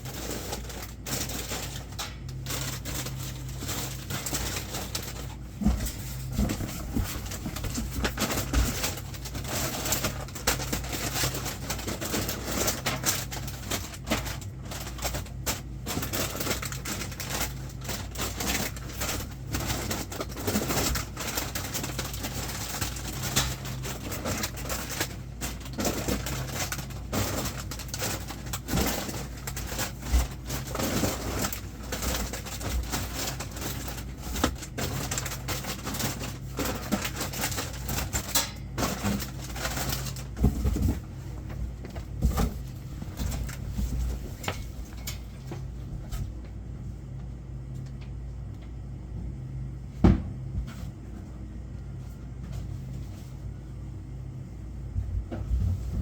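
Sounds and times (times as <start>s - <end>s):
boxes clattering and knocking: 0.0s - 46.5s
steady low hum: 0.0s - 56.0s.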